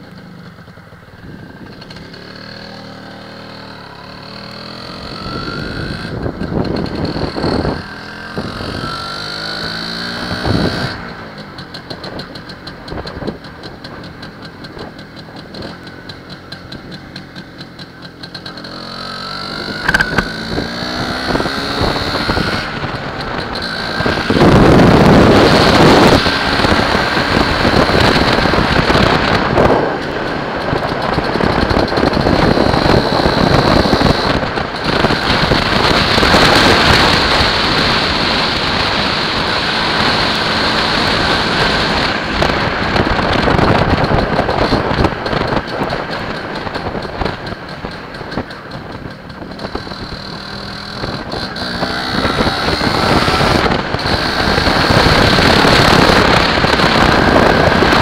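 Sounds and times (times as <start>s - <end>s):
two-stroke motorcycle engine: 0.0s - 58.0s
wind rushing over microphone: 3.8s - 15.8s, 19.3s - 58.0s.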